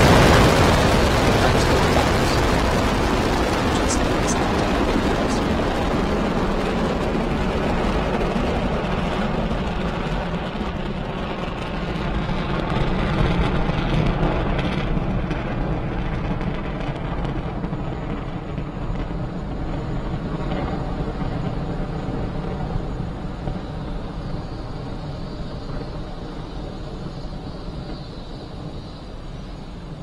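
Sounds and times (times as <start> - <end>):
rocket engines roaring: 0.0 - 30.0.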